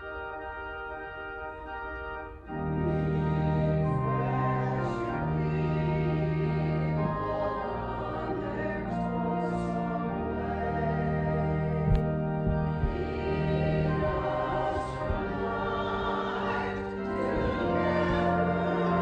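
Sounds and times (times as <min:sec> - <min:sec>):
church organ playing a hymn: 0:00.0 - 0:19.0.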